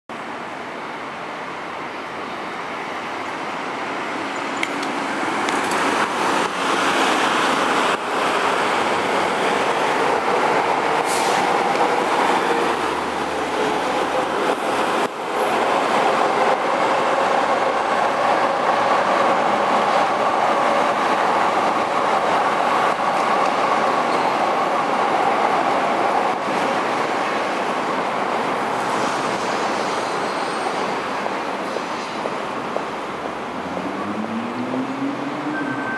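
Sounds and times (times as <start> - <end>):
train rumbling over viaduct: 0.2 - 35.9.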